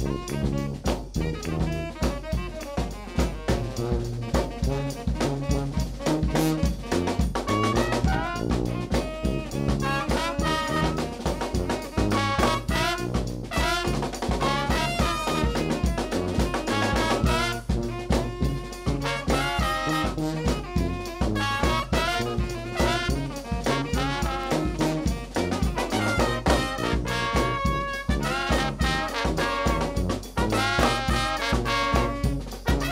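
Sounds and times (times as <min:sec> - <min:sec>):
sousaphone bass line: 0:00.0 - 0:02.6, 0:03.4 - 0:32.9
bass drum and snare drum: 0:00.0 - 0:32.9
saxophones: 0:00.0 - 0:32.9
trombone: 0:00.0 - 0:32.9
trumpet: 0:00.0 - 0:32.9.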